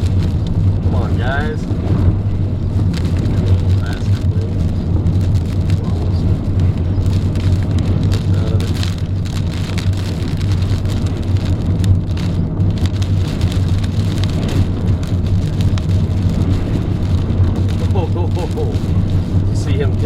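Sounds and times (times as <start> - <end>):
engine and tyres droning: 0.0 - 20.0
rain and hail on a car: 0.0 - 20.0.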